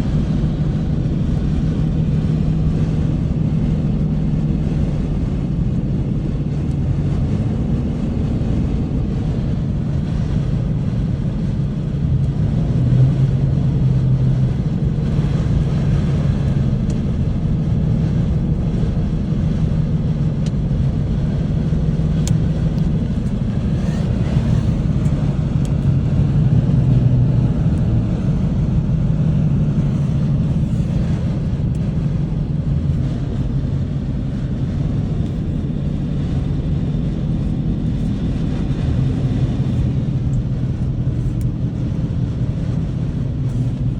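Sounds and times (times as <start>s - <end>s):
motor vehicle engine and road hum: 0.0s - 43.9s.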